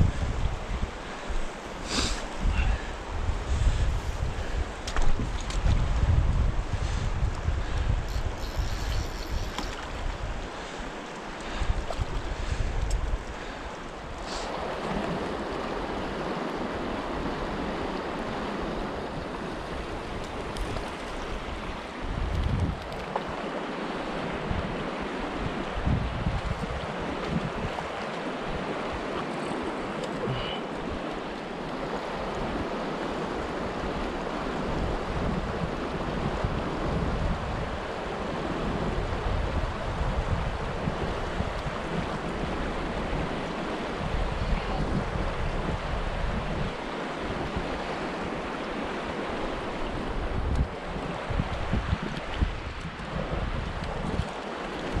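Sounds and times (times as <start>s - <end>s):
wind buffeting microphone: 0.0s - 23.4s, 24.2s - 29.2s, 31.8s - 55.0s
river water rushing over rocks: 8.5s - 36.8s, 37.5s - 55.0s.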